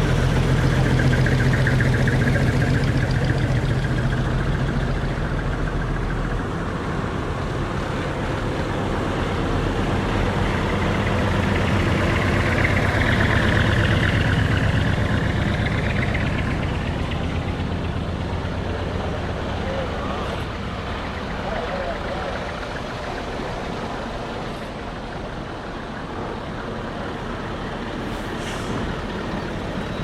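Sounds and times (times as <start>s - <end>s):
truck diesel engines driving past: 0.0s - 30.0s.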